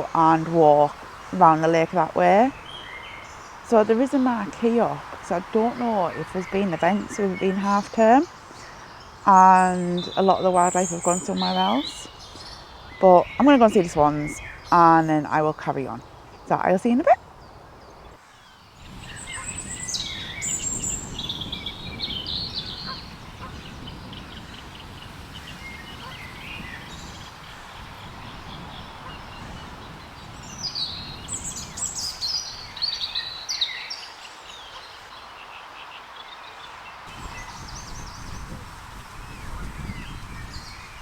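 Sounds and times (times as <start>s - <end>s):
outdoor background noise: 0.0s - 41.0s
songbird singing: 0.0s - 41.0s.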